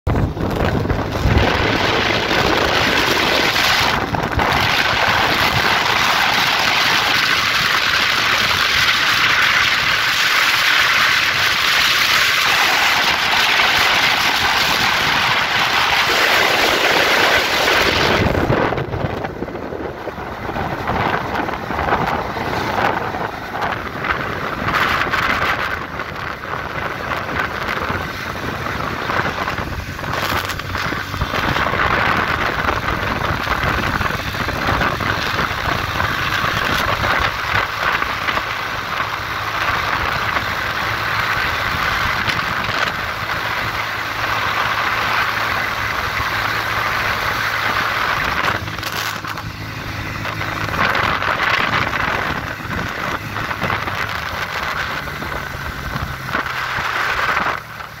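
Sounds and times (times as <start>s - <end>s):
wind rush over microphone: 0.0s - 58.0s.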